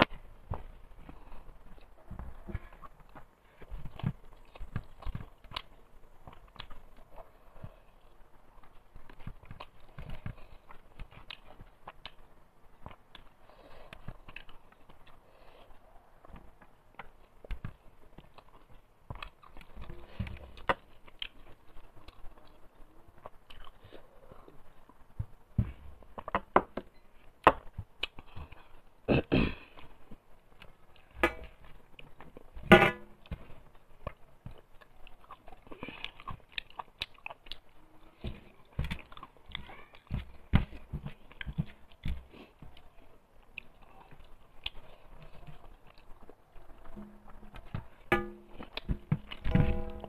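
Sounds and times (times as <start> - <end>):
person chewing with wet mouth sounds: 0.0 - 32.6, 33.2 - 49.5.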